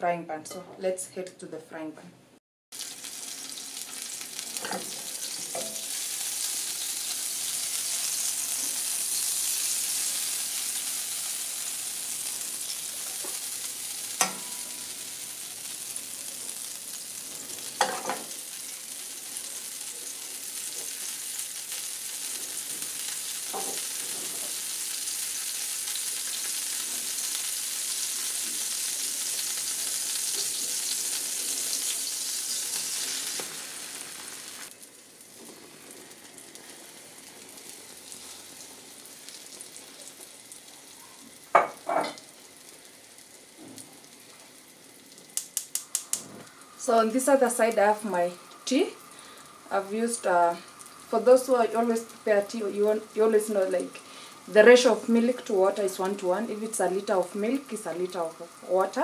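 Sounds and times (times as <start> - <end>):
margarine sizzling in a frying pan: 2.7 - 59.0.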